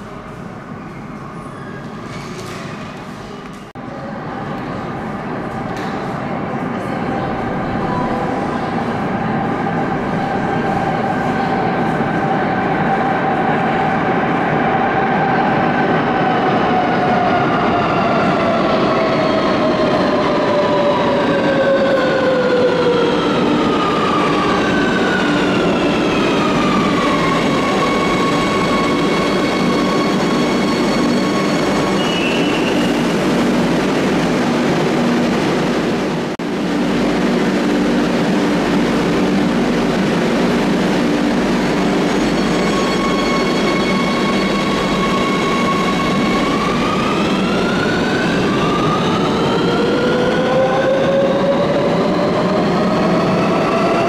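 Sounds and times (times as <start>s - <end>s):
train humming: 2.9s - 54.0s.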